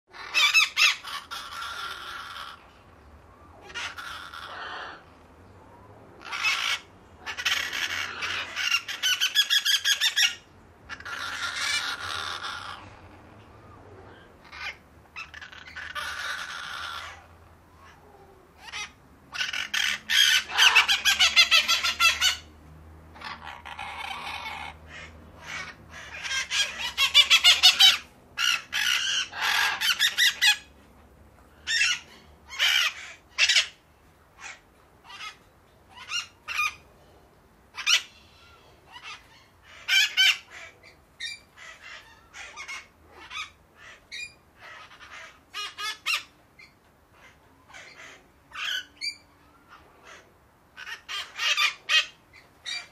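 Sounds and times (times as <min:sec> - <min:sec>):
parakeets squawking harshly: 0:00.1 - 0:02.8, 0:03.6 - 0:05.2, 0:06.2 - 0:13.2, 0:14.2 - 0:18.0, 0:18.6 - 0:30.7, 0:31.6 - 0:33.8, 0:34.4 - 0:36.9, 0:37.7 - 0:52.9.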